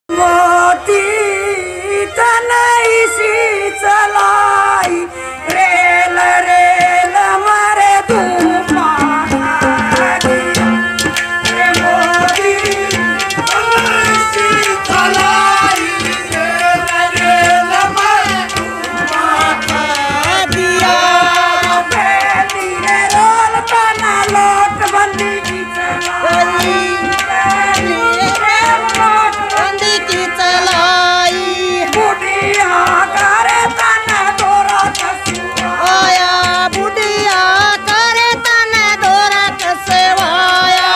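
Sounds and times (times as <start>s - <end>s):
woman singing through loudspeakers: 0.1s - 40.9s
hand drum beat: 7.9s - 40.9s.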